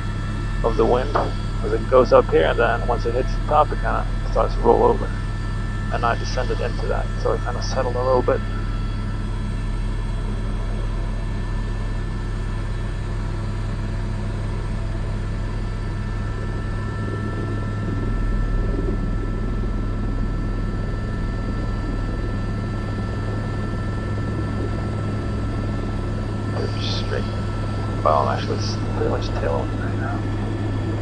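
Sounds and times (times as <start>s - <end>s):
helicopter turbine and rotor drone: 0.0s - 31.0s.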